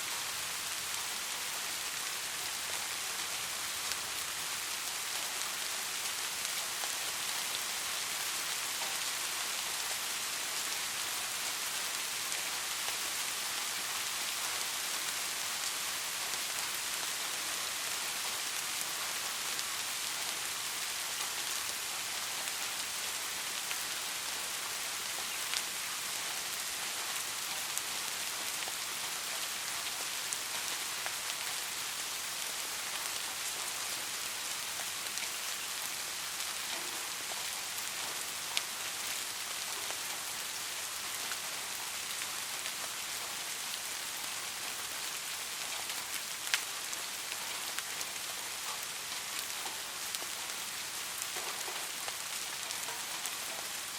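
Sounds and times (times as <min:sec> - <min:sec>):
rain on a hard surface: 0:00.0 - 0:53.9.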